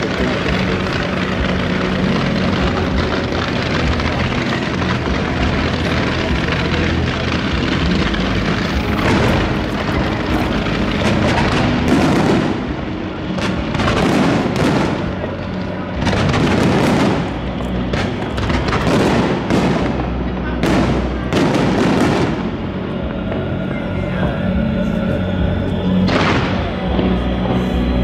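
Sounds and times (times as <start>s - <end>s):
fireworks bangs and crackling: 0.0s - 28.0s
steady engine drone: 0.0s - 28.0s.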